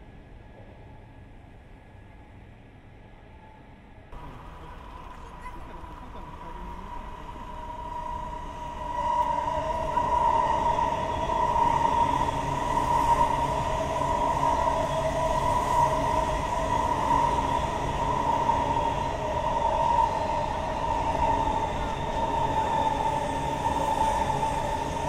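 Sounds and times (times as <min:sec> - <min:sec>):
high-speed train rumbling past: 0:04.0 - 0:25.0.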